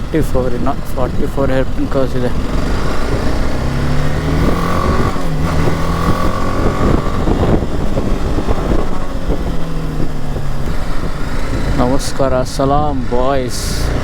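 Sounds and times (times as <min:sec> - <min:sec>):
motorcycle engine running: 0:00.0 - 0:14.0
wind rush on microphone: 0:00.0 - 0:14.0.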